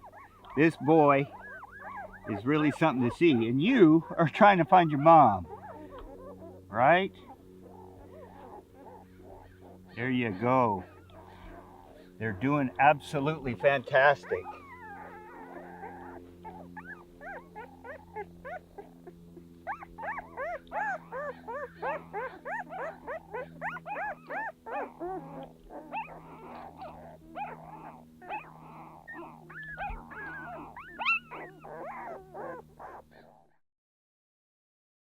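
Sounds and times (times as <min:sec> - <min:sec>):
steady low hum: 0:00.0 - 0:33.4
puppies squeaking and whimpering: 0:00.0 - 0:33.5.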